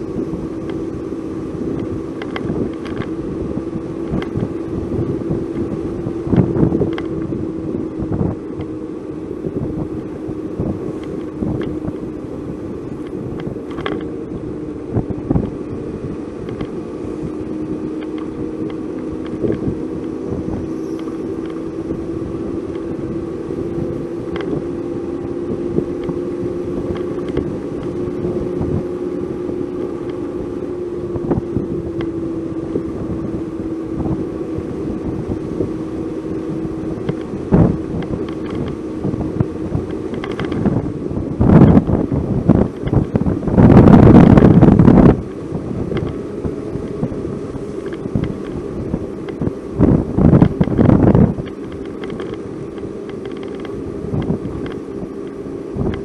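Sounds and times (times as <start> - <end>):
car engine hum: 0.0 - 56.0
road rumble: 0.0 - 56.0.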